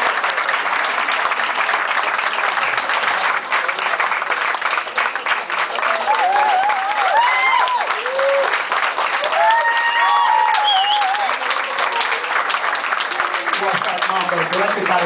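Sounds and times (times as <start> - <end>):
audience applauding: 0.0 - 15.0
crowd cheering: 0.0 - 15.0.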